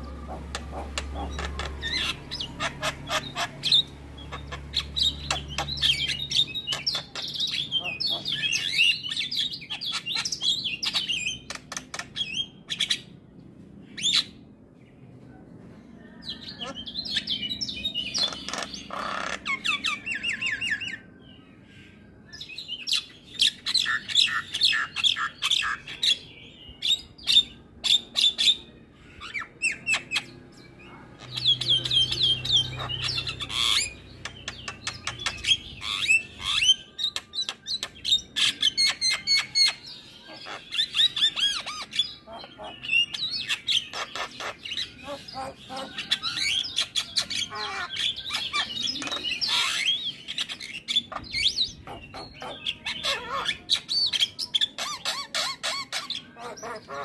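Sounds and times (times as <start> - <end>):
bird chattering song: 0.0 - 13.2, 16.2 - 57.0.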